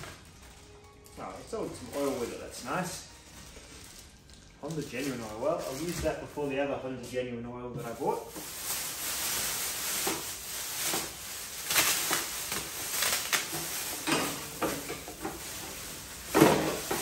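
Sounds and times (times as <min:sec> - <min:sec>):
plastic wrapping crinkling: 0:00.0 - 0:06.8, 0:07.8 - 0:17.0.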